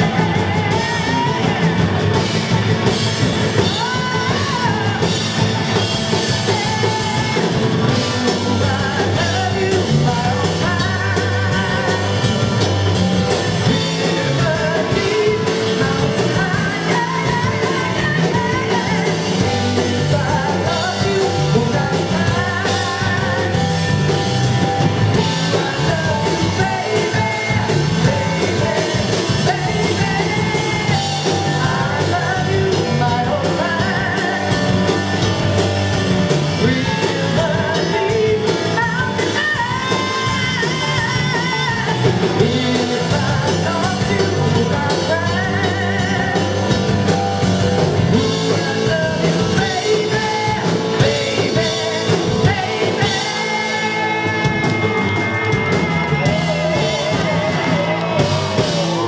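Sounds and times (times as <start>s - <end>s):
woman singing: 0.0s - 35.6s, 36.5s - 47.3s, 48.1s - 59.0s
rock band playing: 0.0s - 59.0s.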